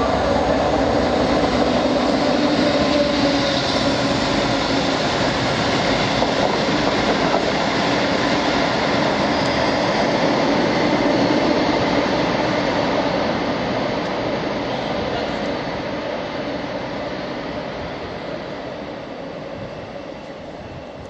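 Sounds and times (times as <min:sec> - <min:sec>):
diesel locomotive engine: 0:00.0 - 0:21.0
wheels rumbling on rail: 0:00.0 - 0:21.0.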